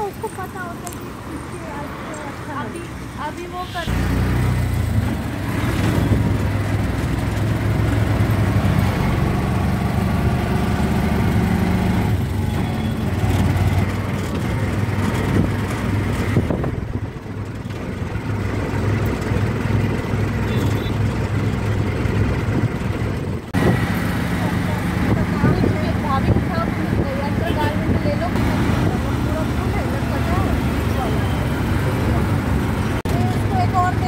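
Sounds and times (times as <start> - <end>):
auto-rickshaw engine running: 0.0 - 34.0
road and wind rush: 0.0 - 34.0.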